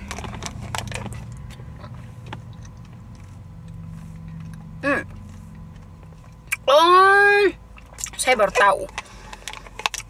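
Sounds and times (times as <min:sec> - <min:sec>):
car cabin low hum: 0:00.0 - 0:10.0.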